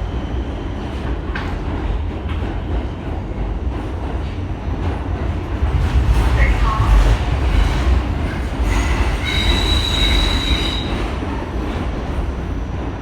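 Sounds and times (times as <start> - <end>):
subway train rumbling on tracks: 0.0 - 13.0.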